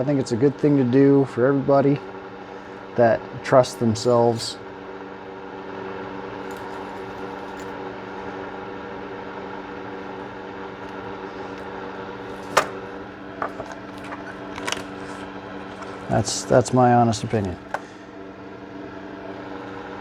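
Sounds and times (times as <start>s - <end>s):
appliance machine hum: 0.0s - 20.0s.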